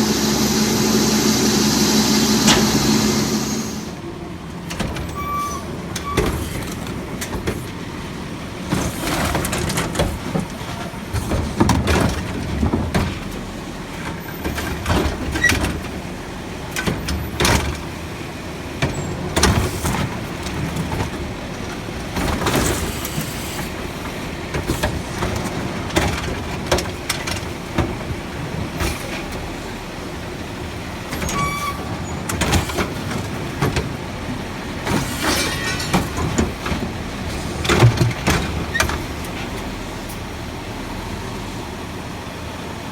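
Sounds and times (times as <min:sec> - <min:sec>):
garbage truck engine running: 0:00.0 - 0:42.9.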